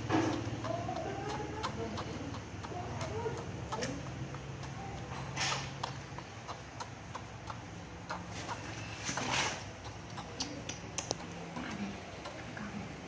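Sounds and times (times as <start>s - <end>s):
rhythmic sucking clicks: 0.0s - 13.0s.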